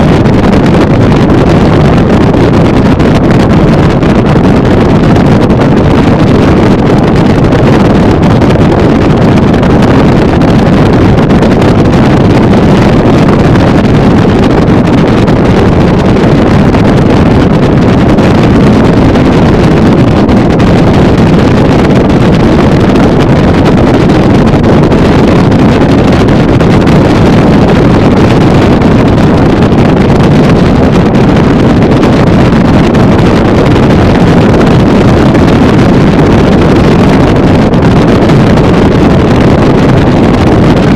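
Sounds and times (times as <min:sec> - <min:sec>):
hull running on water: 0:00.0 - 0:40.9
wind rushing over microphone: 0:00.0 - 0:40.9
motorboat engine: 0:00.1 - 0:40.9.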